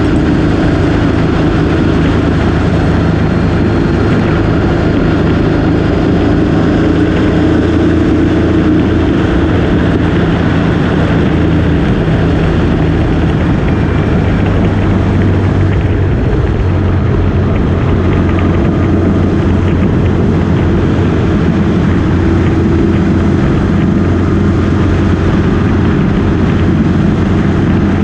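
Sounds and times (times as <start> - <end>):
motorcycle engine running: 0.0 - 28.0
wind noise: 0.0 - 28.0.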